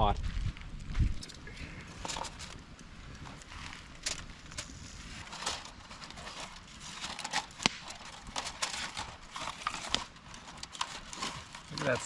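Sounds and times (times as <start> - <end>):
campfire crackling and popping: 0.1 - 12.0.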